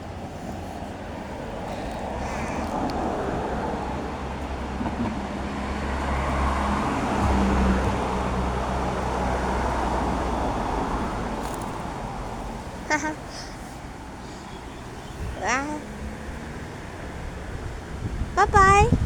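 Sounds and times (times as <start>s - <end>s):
car engine passing by: 0.0s - 12.8s, 13.6s - 18.3s.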